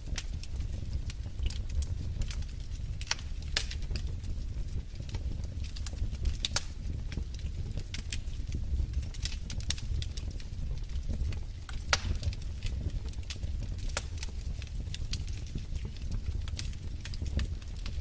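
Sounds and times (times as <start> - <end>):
fire crackling and popping: 0.0 - 18.0
fire flames rumbling: 0.0 - 18.0.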